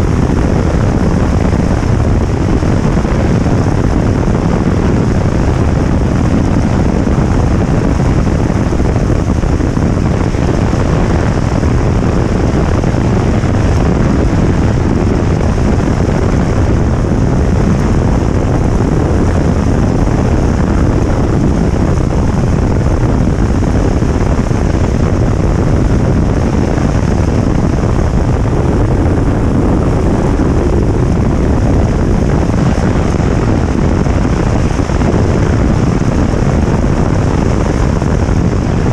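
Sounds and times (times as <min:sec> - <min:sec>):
hull rushing over water: 0:00.0 - 0:38.9
outboard engine at full throttle: 0:00.0 - 0:38.9
wind noise on microphone: 0:00.0 - 0:38.9.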